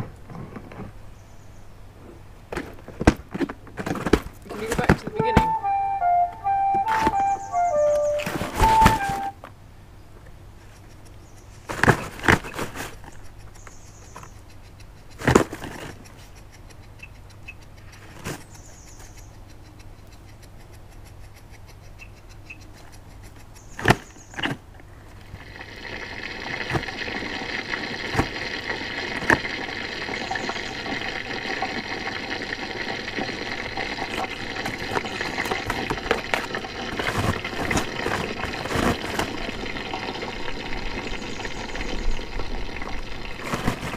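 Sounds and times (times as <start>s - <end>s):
steady hiss with crackling: 0.0s - 21.7s, 22.3s - 43.9s.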